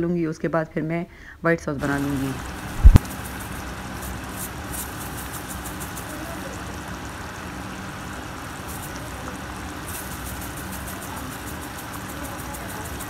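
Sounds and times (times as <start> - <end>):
sauce bubbling in a pan: 2.2 - 13.0.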